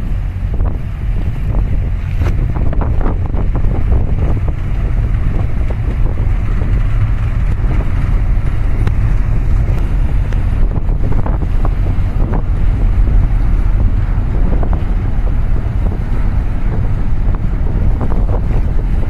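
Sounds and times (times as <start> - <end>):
boat engine rumble: 0.0 - 19.0
water sloshing and splashing: 0.0 - 19.0
wind buffeting microphone: 0.0 - 19.0.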